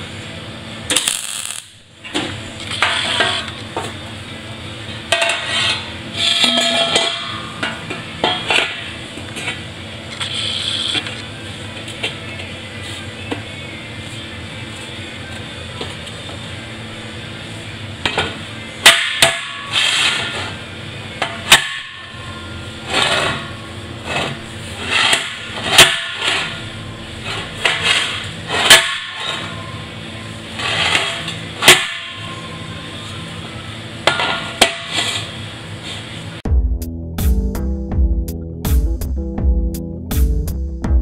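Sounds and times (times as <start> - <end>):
workshop hum: 0.0 - 41.0.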